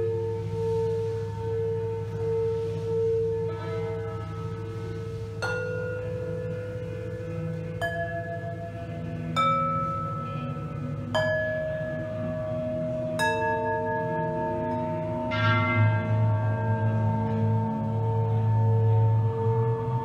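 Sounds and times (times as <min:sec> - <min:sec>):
dense metallic ring: 0:00.0 - 0:20.0
low hum: 0:00.0 - 0:20.0
metal bowls struck ringing: 0:00.0 - 0:20.0.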